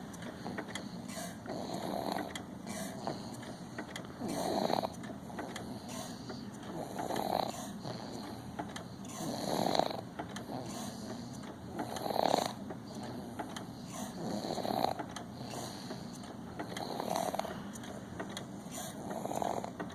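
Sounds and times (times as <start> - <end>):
baby snoring: 0.4 - 3.6, 4.2 - 17.7, 18.7 - 19.8.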